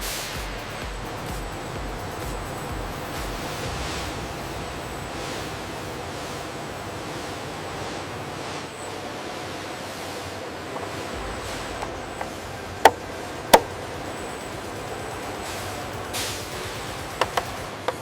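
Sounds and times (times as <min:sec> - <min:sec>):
workshop noise: 0:00.0 - 0:18.0.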